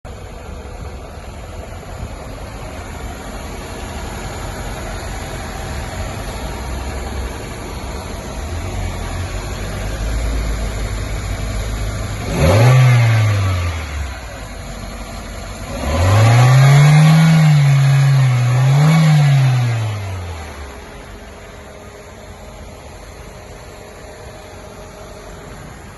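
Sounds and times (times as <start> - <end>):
car engine idling and revving: 0.0 - 25.9.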